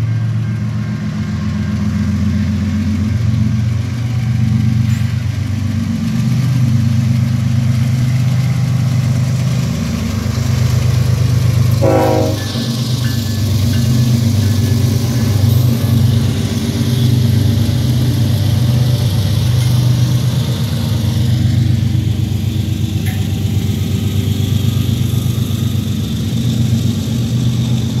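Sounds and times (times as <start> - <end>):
diesel locomotive drone: 0.0 - 28.0
train cars rolling on rails: 0.0 - 28.0.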